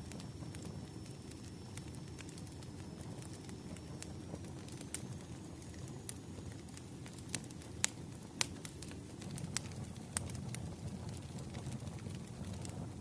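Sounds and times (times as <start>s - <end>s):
burning logs rumbling: 0.0s - 13.0s
fire popping: 0.0s - 13.0s.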